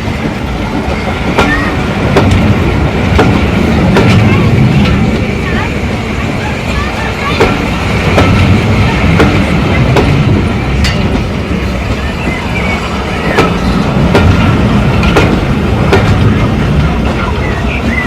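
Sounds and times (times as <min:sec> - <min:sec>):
train rumble: 0:00.0 - 0:18.0
wheels clicking over rail joints: 0:00.0 - 0:18.0.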